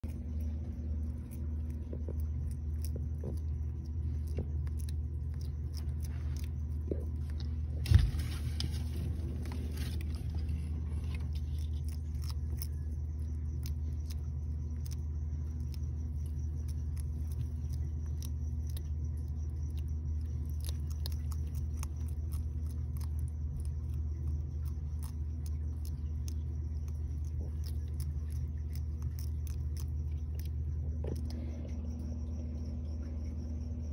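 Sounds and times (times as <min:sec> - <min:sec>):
lizards crunching worms: 0:00.0 - 0:33.9
steady low hum: 0:00.0 - 0:33.9.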